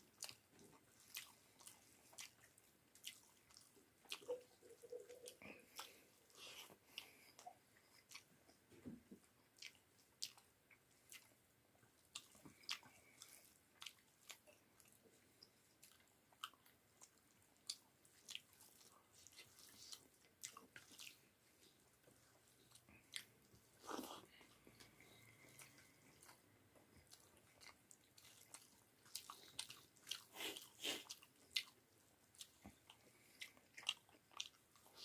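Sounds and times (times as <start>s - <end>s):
person chewing: 0.0s - 11.4s, 12.0s - 35.0s.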